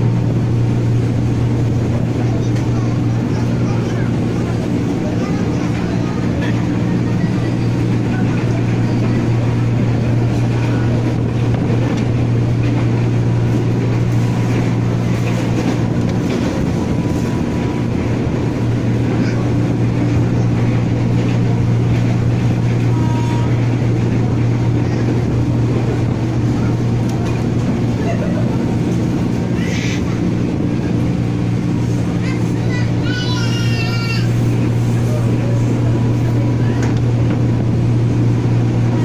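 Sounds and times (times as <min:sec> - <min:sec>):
train running hum and rumble: 0:00.0 - 0:39.0.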